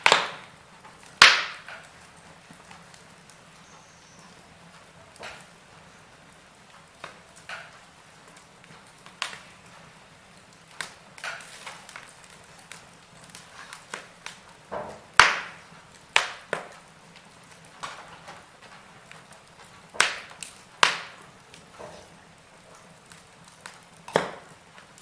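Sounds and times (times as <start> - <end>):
sharp fire pops: 0.0 - 4.0, 6.9 - 25.0
wood fire crackling: 0.0 - 25.0.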